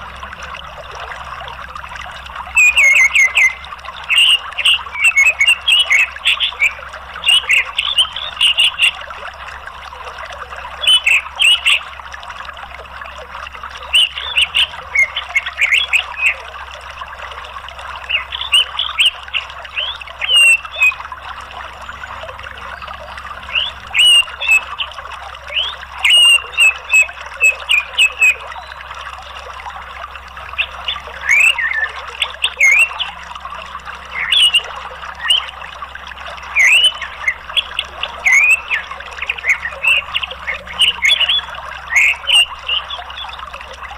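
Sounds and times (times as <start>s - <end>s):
flowing water: 0.0s - 43.9s.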